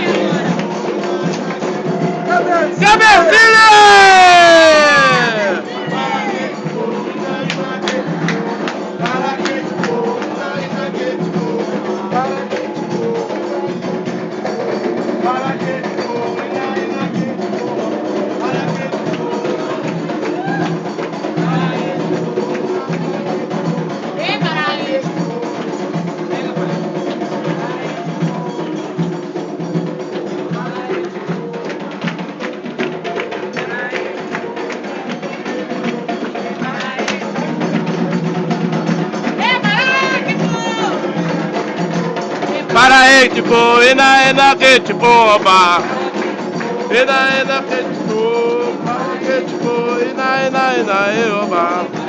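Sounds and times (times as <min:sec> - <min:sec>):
fast hand drum rhythm: 0:00.0 - 0:52.0
voices singing: 0:00.0 - 0:52.0.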